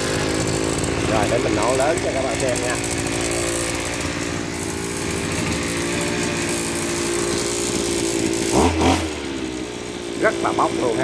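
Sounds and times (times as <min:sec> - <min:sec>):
brush cutter engine at high throttle: 0:00.0 - 0:11.0.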